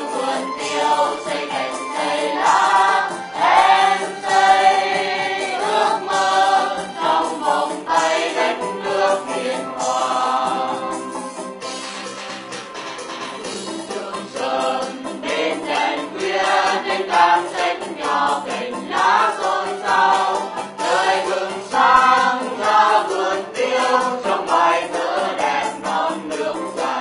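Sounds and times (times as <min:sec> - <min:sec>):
choir singing: 0:00.0 - 0:11.5, 0:13.5 - 0:27.0.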